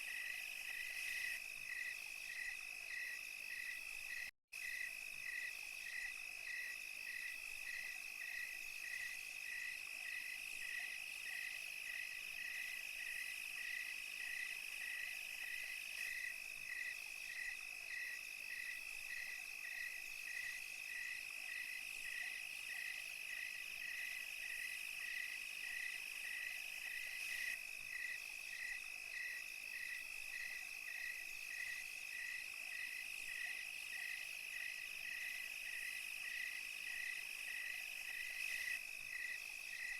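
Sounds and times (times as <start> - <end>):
cricket chirping evenly: 0.0 - 39.9
crickets trilling: 0.1 - 39.9.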